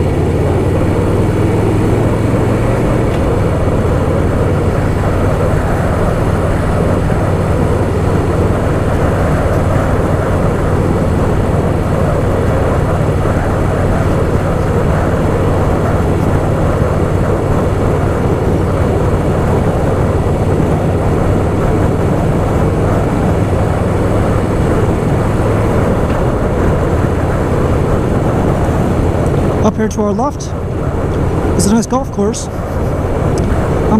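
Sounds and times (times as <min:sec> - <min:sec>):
motorcycle engine rumbling: 0:00.0 - 0:33.9
wind rush on microphone: 0:00.0 - 0:33.9.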